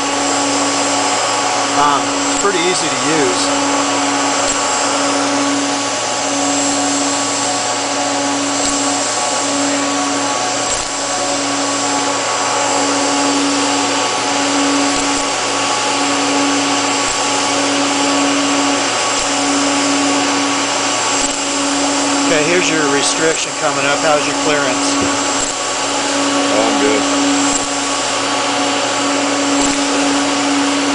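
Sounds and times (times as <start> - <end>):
buzzing hum: 0.0 - 30.9
welding hiss: 0.0 - 30.9.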